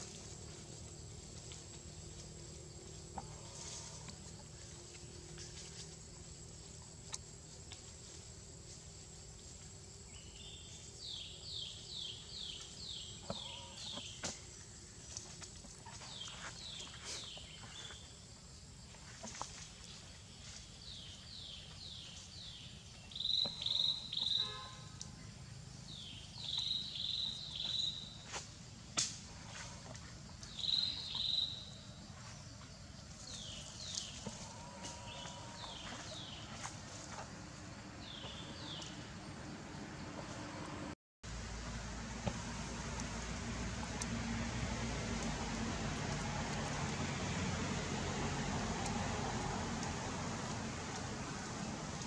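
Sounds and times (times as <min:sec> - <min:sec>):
faint high insect tone: 0:00.0 - 0:43.3.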